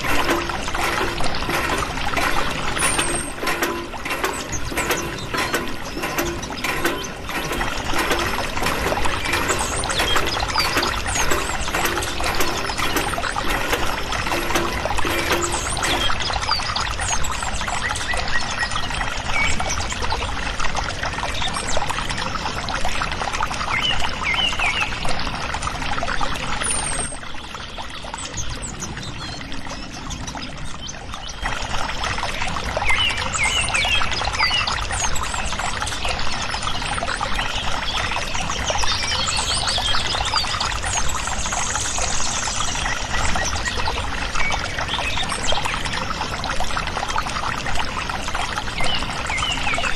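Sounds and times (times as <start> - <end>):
water pouring and splashing on plastic: 0.0 - 49.9.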